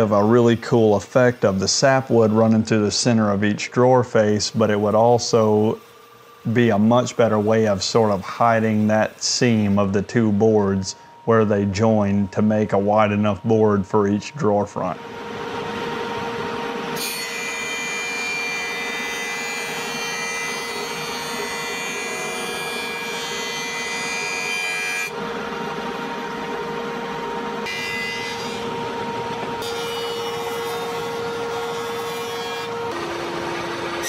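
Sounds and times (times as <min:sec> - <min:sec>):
jointer whining: 0:06.4 - 0:34.0.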